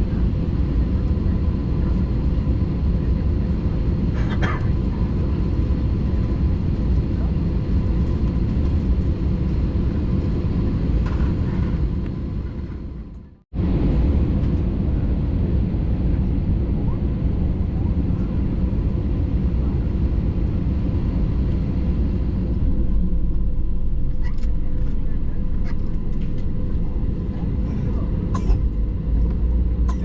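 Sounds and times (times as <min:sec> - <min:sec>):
low cabin rumble: 0:00.0 - 0:30.0.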